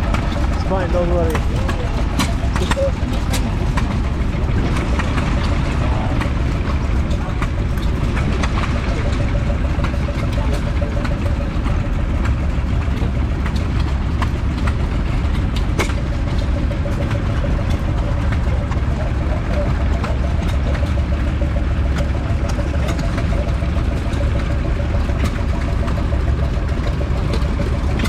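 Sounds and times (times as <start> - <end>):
old engine idling: 0.0 - 28.0
sharp engine ticks: 0.0 - 28.0.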